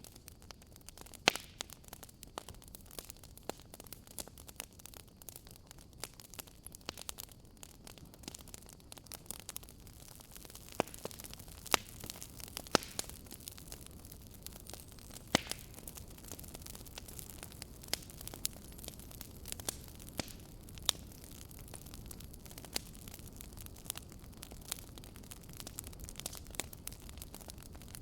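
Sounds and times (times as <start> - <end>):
fire crackling and popping: 0.0 - 28.0
fire hiss and rumble: 0.0 - 28.0.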